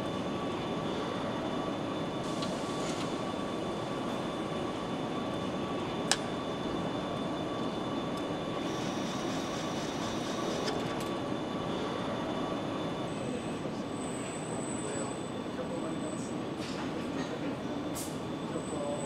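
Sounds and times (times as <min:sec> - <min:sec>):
thin steady whine: 0:00.0 - 0:16.5, 0:17.5 - 0:19.0
factory machinery hum: 0:00.0 - 0:19.0.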